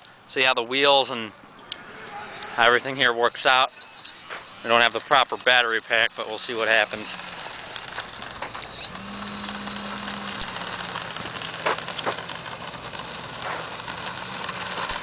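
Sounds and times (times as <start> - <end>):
model plane motor buzzing: 2.4 - 15.0.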